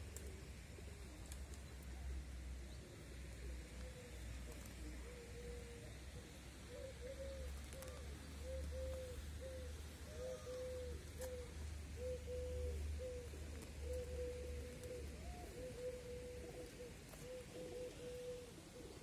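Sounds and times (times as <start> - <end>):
pigeons cooing: 2.9 - 19.0.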